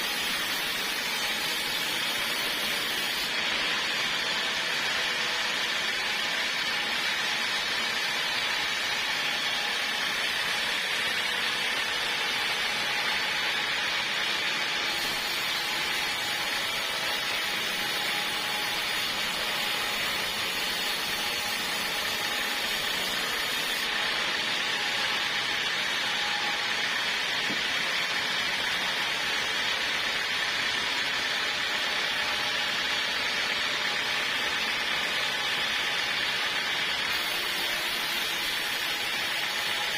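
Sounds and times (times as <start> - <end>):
saw cutting log with whine: 0.0 - 39.9.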